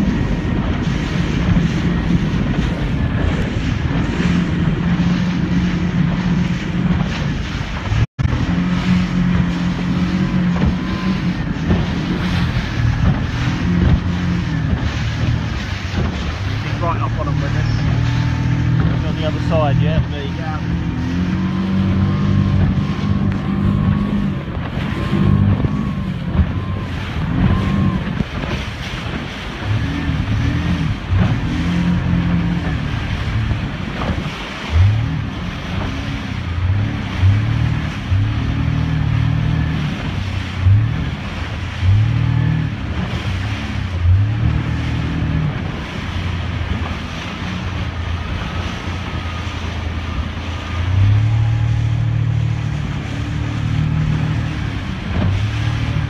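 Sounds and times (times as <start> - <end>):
motorboat engine revving: 0.0 - 56.0
water noise: 0.0 - 56.0
wind: 0.0 - 56.0.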